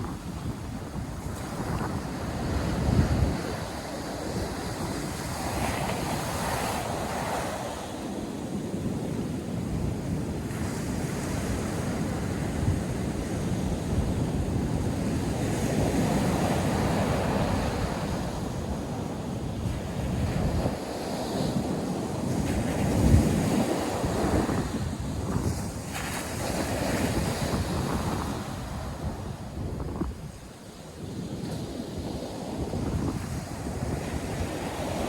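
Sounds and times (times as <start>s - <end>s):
surf breaking ashore: 0.0s - 35.0s
wind buffeting microphone: 0.0s - 35.0s.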